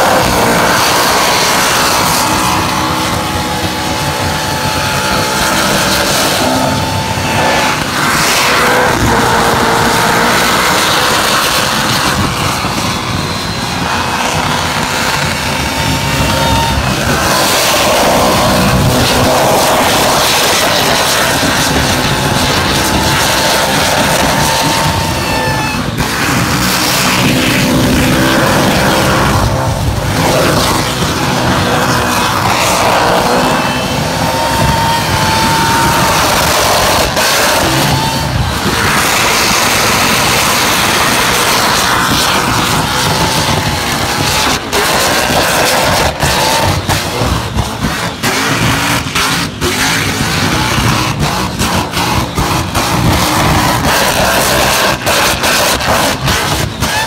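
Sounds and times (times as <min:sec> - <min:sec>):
engine at high revs: 0:00.0 - 0:57.0.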